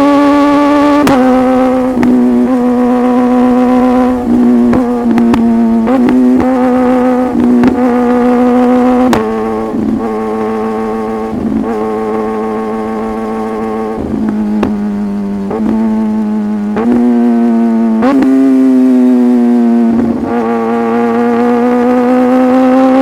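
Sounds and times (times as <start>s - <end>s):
motorbike engine at high revs: 0.0s - 23.0s.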